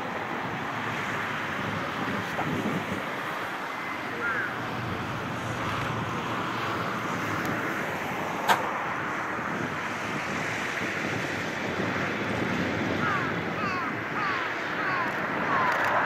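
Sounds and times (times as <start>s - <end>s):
distant jet engines: 0.0s - 16.0s.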